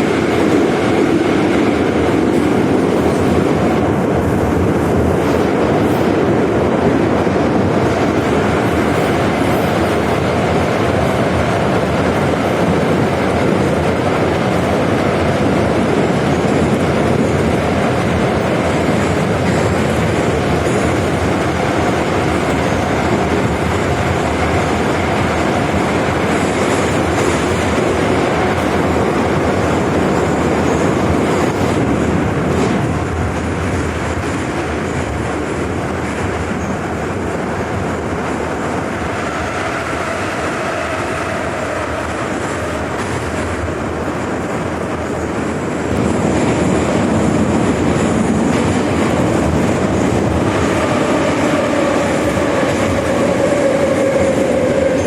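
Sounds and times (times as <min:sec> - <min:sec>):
train clickety-clack: 0:00.0 - 0:55.0
train wheel and rail noise: 0:00.0 - 0:55.0.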